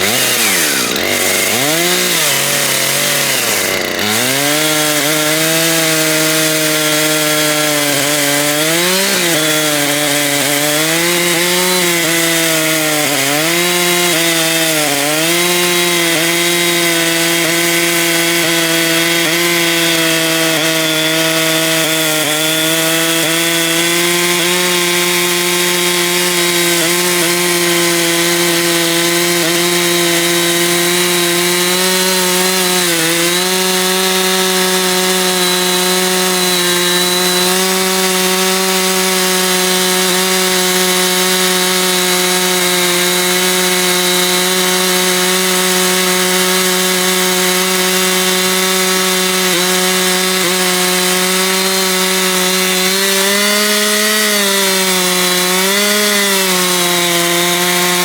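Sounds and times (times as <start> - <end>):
chainsaw cutting a log: 0.0 - 58.0.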